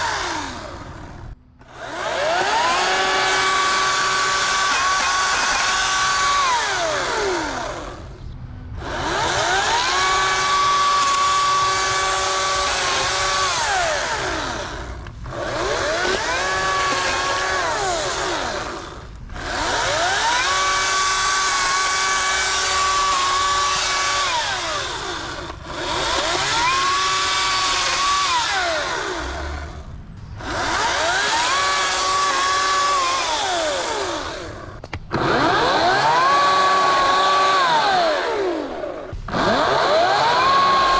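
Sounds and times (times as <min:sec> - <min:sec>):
electric chainsaw revving: 0:00.0 - 0:08.2, 0:08.8 - 0:40.9.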